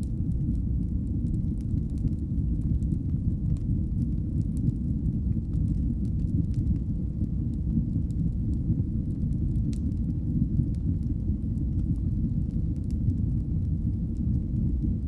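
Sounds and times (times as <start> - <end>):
fire burning rumble: 0.0 - 15.0
fire crackling and popping: 0.0 - 15.0.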